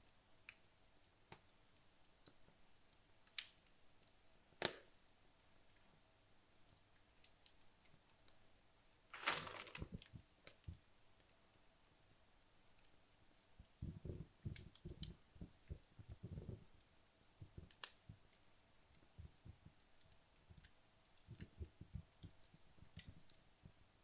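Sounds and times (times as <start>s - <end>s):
fire crackling faintly: 0.0s - 24.0s.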